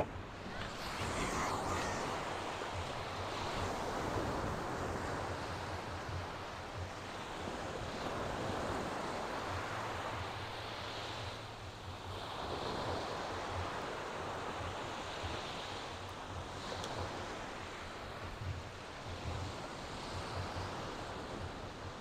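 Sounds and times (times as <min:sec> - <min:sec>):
surf washing onto beach: 0:00.0 - 0:22.0
wind rumble on microphone: 0:00.0 - 0:22.0.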